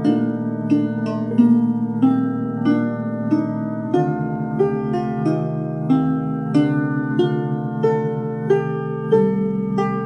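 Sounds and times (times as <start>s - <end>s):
lyre plucked notes: 0.0s - 10.0s.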